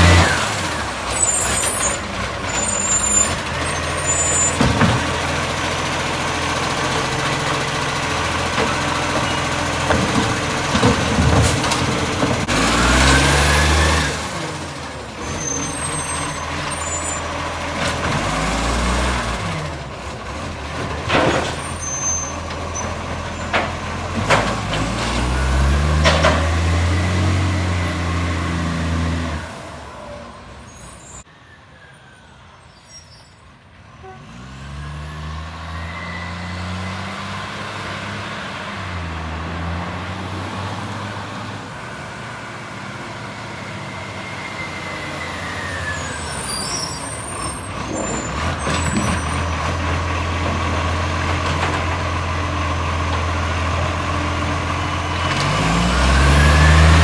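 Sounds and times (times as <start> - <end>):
truck engine revving: 0.0 - 31.2, 34.2 - 57.0.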